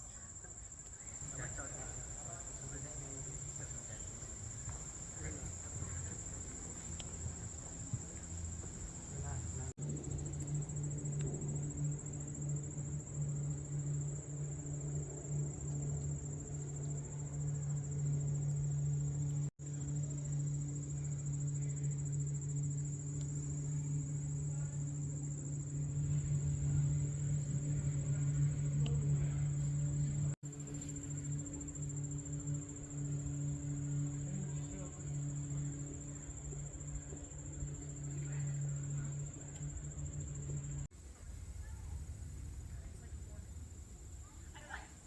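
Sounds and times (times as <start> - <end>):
insects trilling: 0.0 - 45.0
low hum: 0.0 - 45.0.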